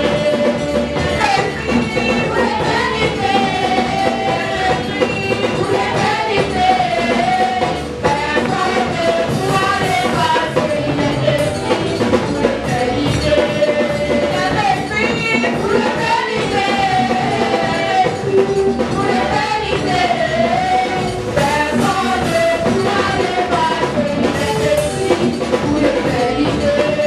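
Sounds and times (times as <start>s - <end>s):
backing singers: 0.0s - 27.0s
drum kit: 0.0s - 27.0s
woman singing lead: 0.0s - 27.0s.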